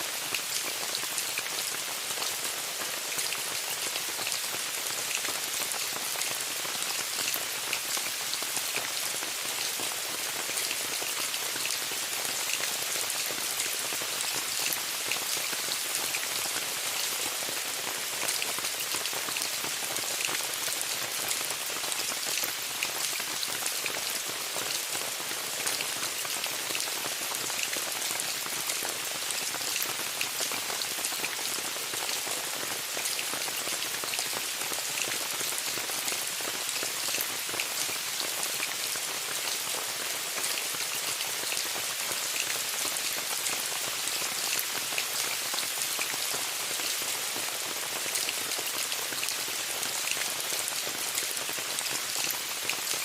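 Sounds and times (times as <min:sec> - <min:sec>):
rain falling on a tent: 0:00.0 - 0:53.0.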